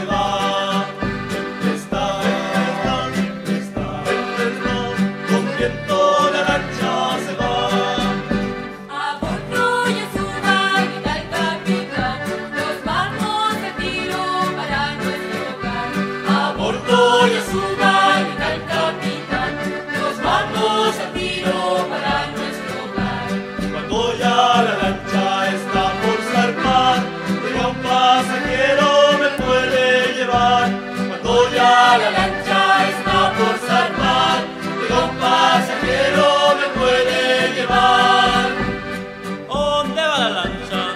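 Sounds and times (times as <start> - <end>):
accordion-led folk tune: 0.0 - 40.9
group of voices singing: 0.0 - 40.9.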